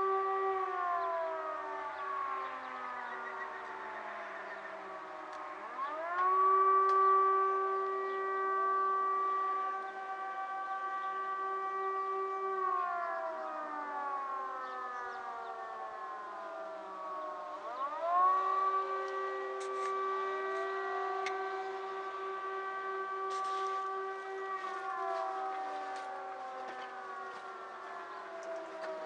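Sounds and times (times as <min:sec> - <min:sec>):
alert siren wailing: 0:00.0 - 0:29.0.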